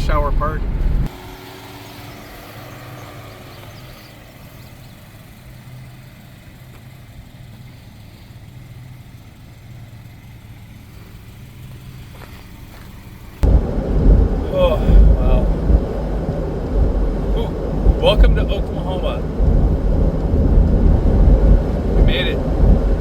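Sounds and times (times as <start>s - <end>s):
car engine hum: 0.0s - 23.0s
road and wind noise: 0.0s - 23.0s.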